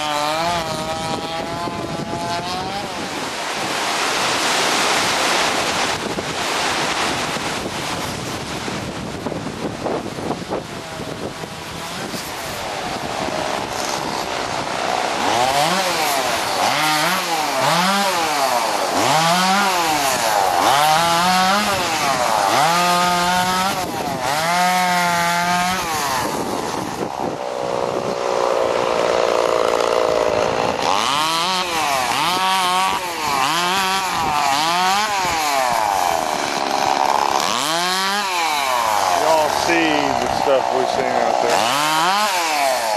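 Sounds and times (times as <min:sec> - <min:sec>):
chainsaw revving: 0:00.0 - 0:42.9.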